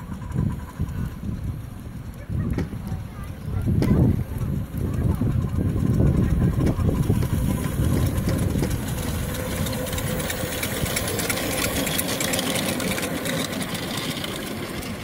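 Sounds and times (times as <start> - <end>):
steam locomotive chuffing: 0.0 - 15.0
train clattering along track: 0.0 - 15.0.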